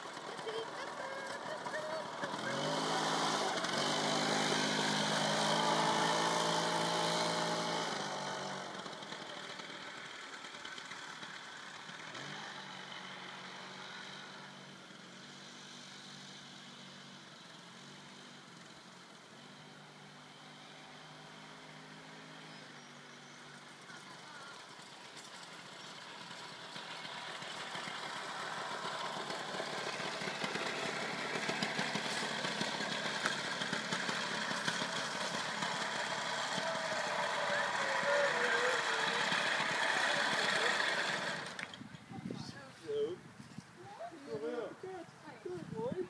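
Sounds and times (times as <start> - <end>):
go-kart engine passing by: 0.0 - 42.0.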